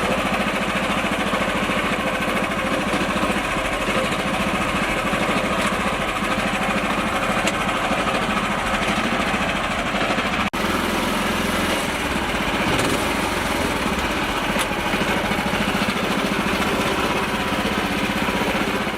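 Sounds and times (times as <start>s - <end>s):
small tractor engine running: 0.0s - 18.9s.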